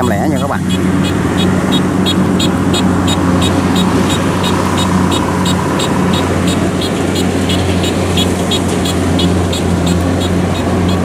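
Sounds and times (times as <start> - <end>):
harvester engines droning: 0.0 - 11.0.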